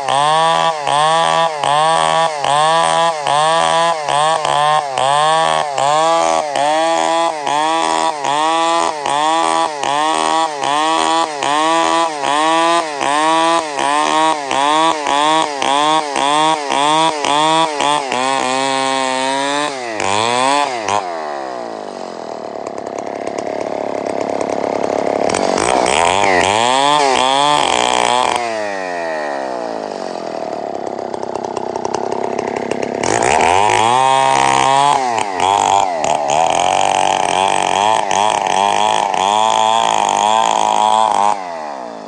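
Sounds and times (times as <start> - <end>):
chainsaw engine revving: 0.0 - 42.0.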